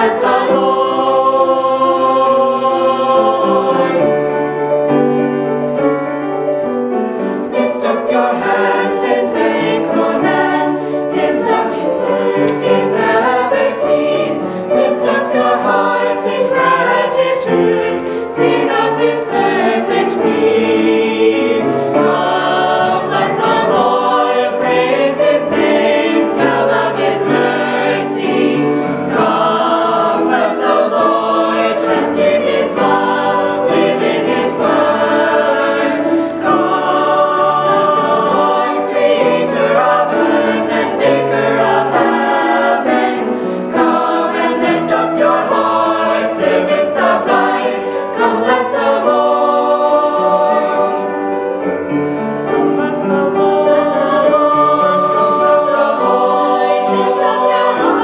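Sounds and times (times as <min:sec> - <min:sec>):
mixed choir singing a hymn: 0:00.0 - 0:58.0.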